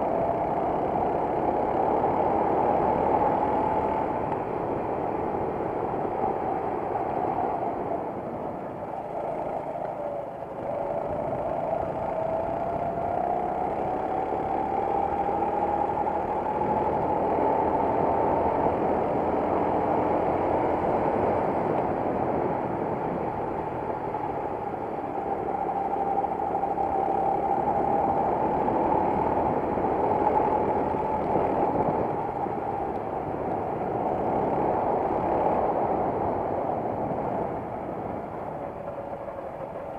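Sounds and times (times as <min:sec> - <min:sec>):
kart engine running hard: 0:00.0 - 0:39.9
rushing wind noise: 0:00.0 - 0:39.9.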